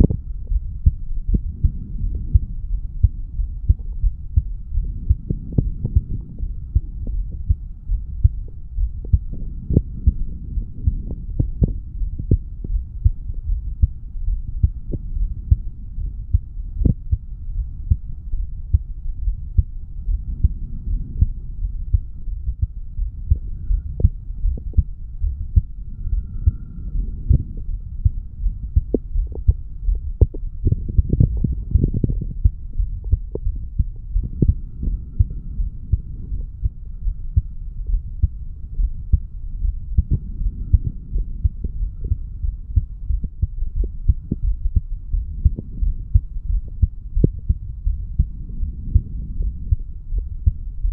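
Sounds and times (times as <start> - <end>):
continuous low rumble: 0.0 - 50.9
heartbeat: 0.0 - 50.9.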